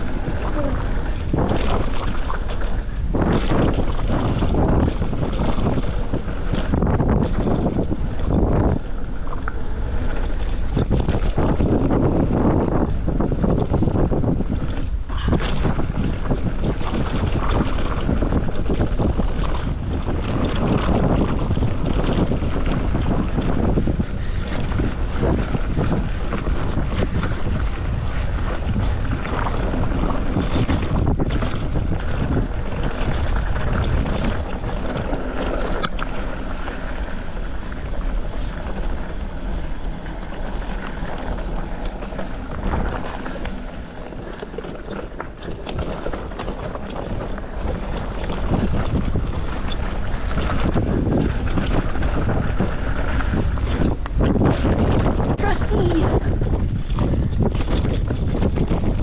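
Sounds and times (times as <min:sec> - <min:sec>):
bike clattering and rattling: 0:00.0 - 0:59.0
tyres rumbling on dirt: 0:00.0 - 0:59.0
wind buffeting microphone: 0:00.0 - 0:59.0.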